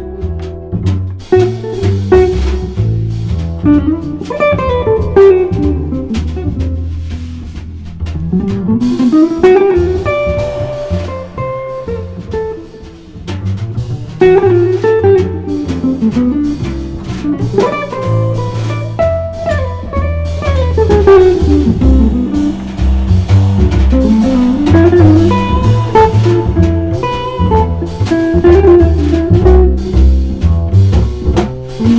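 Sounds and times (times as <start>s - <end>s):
jazz guitar melody: 0.0s - 31.9s
light drums: 0.0s - 31.9s
walking bass: 0.0s - 31.9s.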